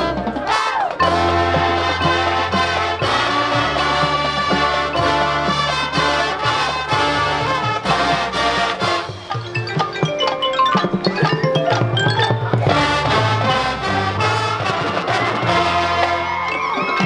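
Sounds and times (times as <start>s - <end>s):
mallet percussion runs: 0.0s - 17.0s
marching band playing: 0.0s - 17.0s.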